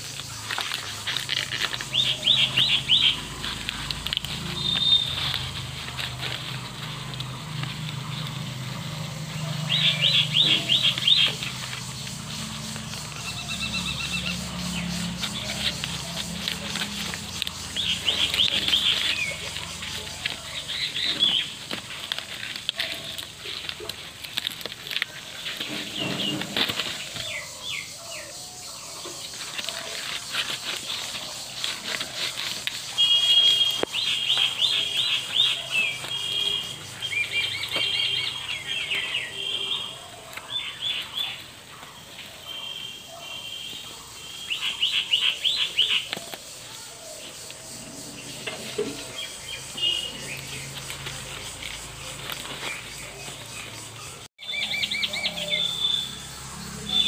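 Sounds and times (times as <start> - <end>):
leaves crinkling and rustling: 0.0 - 57.0
small birds chirping: 0.0 - 57.0.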